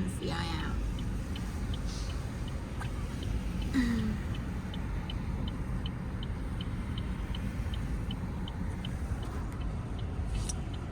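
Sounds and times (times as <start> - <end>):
light regular ticking: 0.2 - 10.9.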